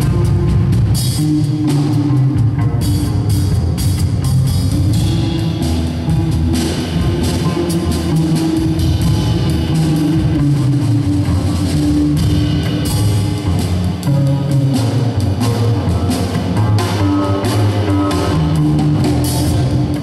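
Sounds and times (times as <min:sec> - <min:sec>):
drums and cymbals with sticks: 0:00.0 - 0:20.0
upright bass plucked: 0:00.0 - 0:20.0.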